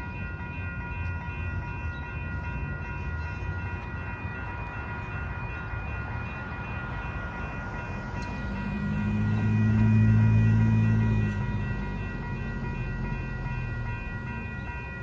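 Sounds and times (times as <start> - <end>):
railroad crossing bells ringing: 0.0 - 15.0.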